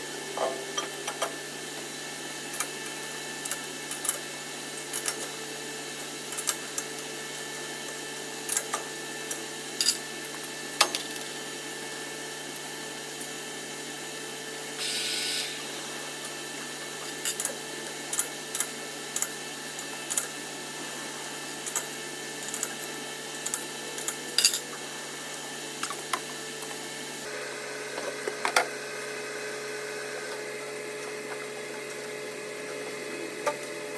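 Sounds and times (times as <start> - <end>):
workshop machine humming: 0.0 - 33.9.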